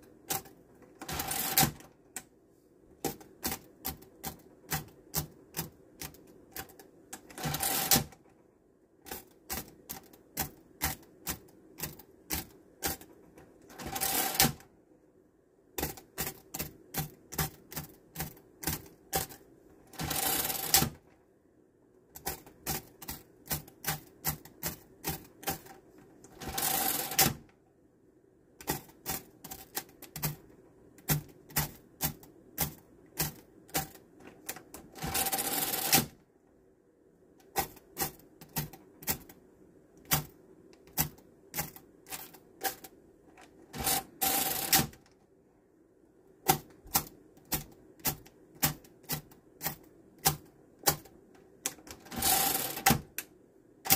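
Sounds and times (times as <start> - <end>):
calculator add cycle: 0.0 - 15.0, 15.6 - 27.7, 28.4 - 36.4, 37.2 - 45.4, 46.3 - 53.9.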